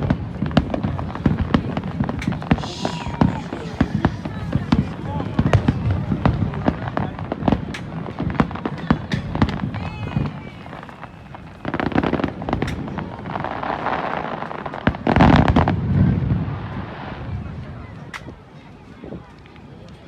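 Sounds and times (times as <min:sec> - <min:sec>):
fireworks crackling and bursting: 0:00.0 - 0:17.2.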